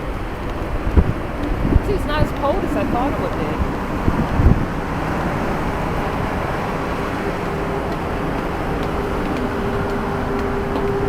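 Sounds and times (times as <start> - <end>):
low machinery rumble: 0.0 - 11.0.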